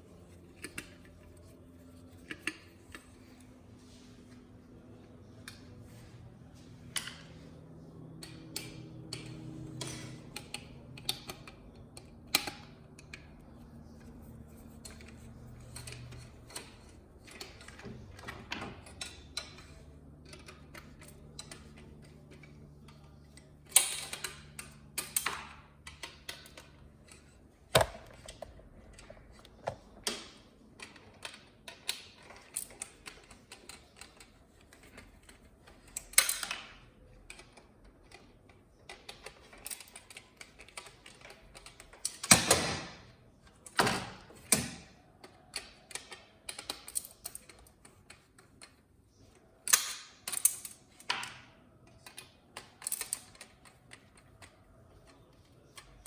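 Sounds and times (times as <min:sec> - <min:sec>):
tools and parts clicking and tapping: 0:00.0 - 0:04.4, 0:05.2 - 0:56.0.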